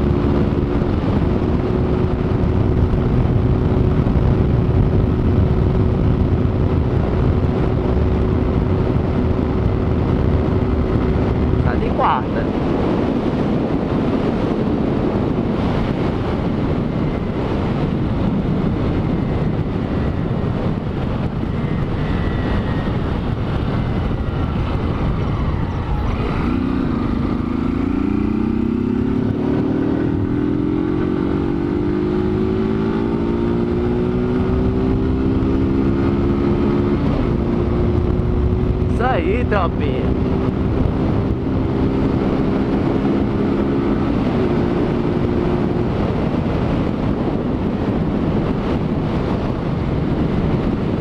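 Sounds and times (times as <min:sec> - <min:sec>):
motorcycle engine accelerating: 0:00.0 - 0:51.0
wind rushing over microphone: 0:00.0 - 0:51.0.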